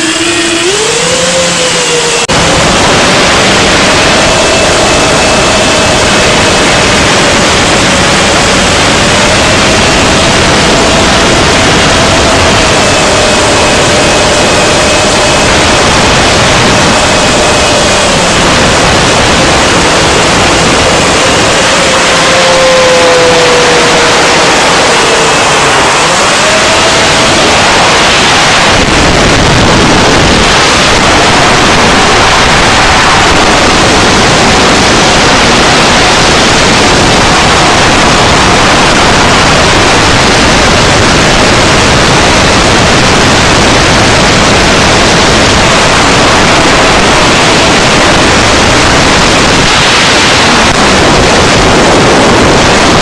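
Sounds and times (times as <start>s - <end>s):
drone motor whine: 0.0s - 53.0s
rushing wind noise: 0.0s - 53.0s.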